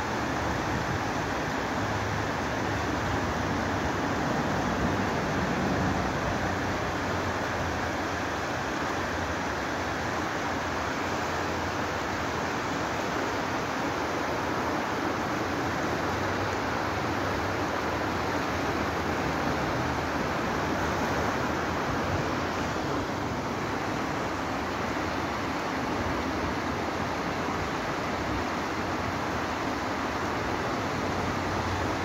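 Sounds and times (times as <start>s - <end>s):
river rushing over rocks: 0.0s - 32.0s.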